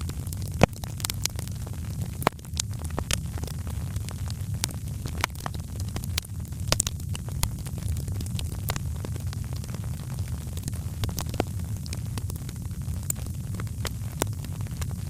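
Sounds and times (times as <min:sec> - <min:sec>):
wood fire burning: 0:00.0 - 0:15.0.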